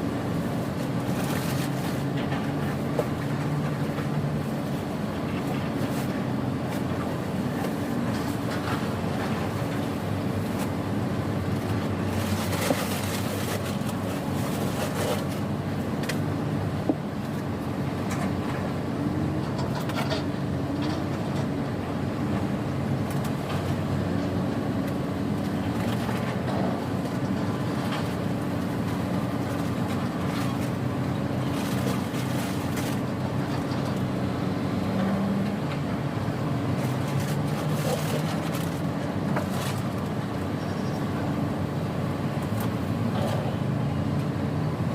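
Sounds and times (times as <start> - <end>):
tugboat engine humming: 0.0 - 44.9.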